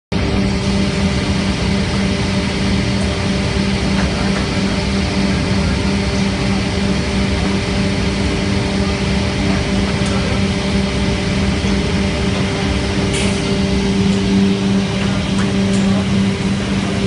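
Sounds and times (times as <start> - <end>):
textile machine humming: 0.1 - 17.0.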